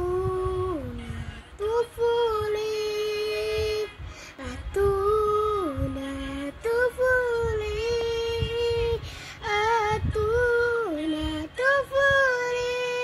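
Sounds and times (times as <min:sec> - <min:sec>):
girl singing: 0:00.0 - 0:13.0.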